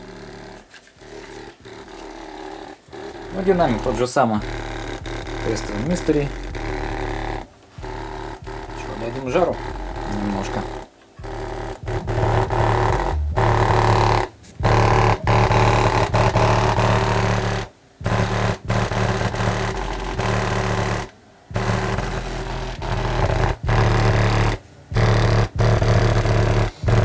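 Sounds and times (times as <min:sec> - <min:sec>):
bass-heavy music through speaker: 0:03.1 - 0:27.0.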